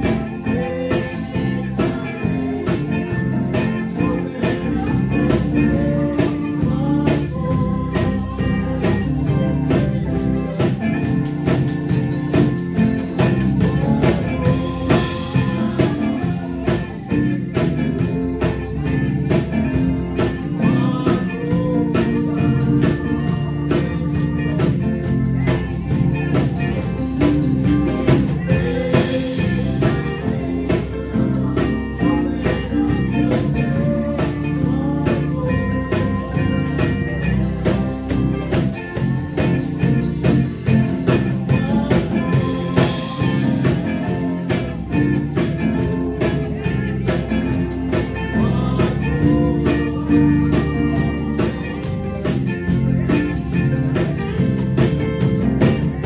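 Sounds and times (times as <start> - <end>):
guitar: 0.0 - 56.0
man singing: 0.0 - 56.0
tambourine and drum beat: 0.0 - 56.0.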